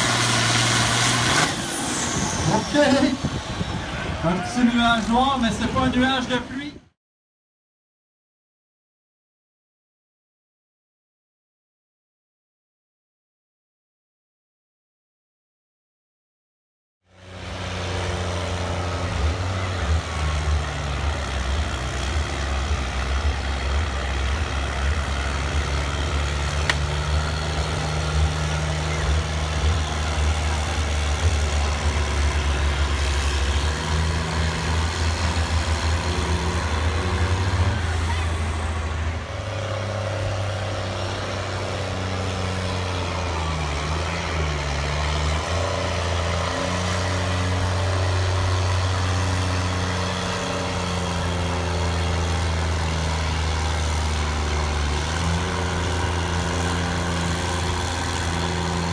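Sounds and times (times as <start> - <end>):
tractor diesel engine under load: 0.0 - 6.9, 17.1 - 58.9.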